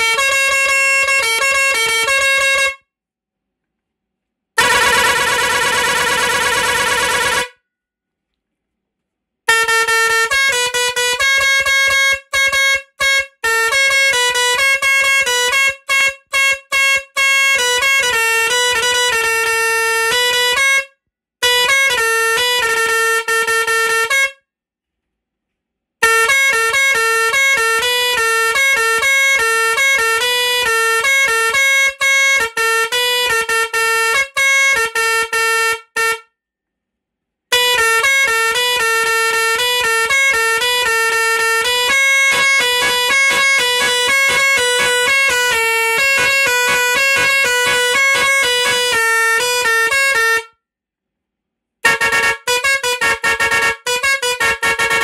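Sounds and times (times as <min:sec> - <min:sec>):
musical air horn playing tunes: 0:00.0 - 0:02.8, 0:04.6 - 0:07.6, 0:09.5 - 0:24.4, 0:26.0 - 0:36.3, 0:37.5 - 0:50.6, 0:51.8 - 0:55.0.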